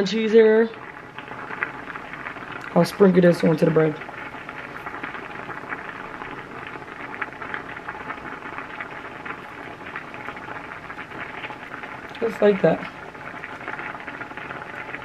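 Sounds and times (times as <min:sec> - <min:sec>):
pot boiling with bubbling pops: 0:00.0 - 0:15.0.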